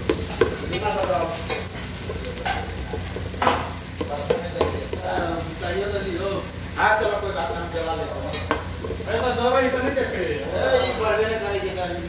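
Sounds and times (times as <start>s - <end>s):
onion and garlic sizzling in oil: 0.0s - 12.0s.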